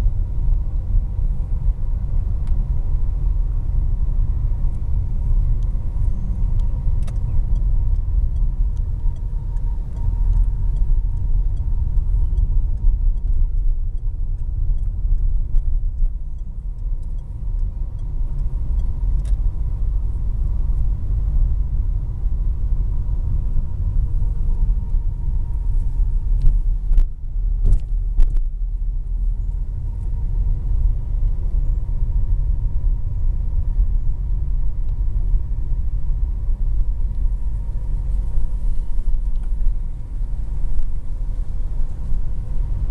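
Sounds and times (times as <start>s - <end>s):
car engine and tyres on road: 0.0s - 42.9s.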